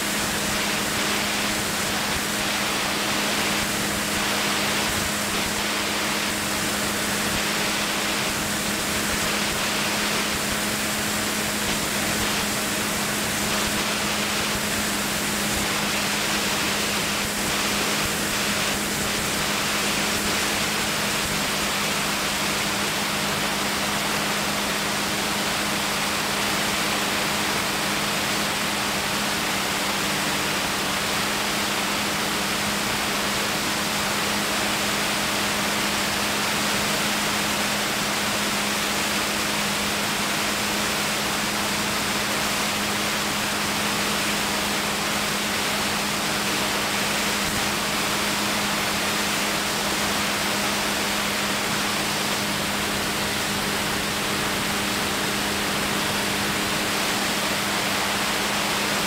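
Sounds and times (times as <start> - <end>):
light aircraft engine hum: 0.0 - 59.0
rush of air noise: 0.0 - 59.0.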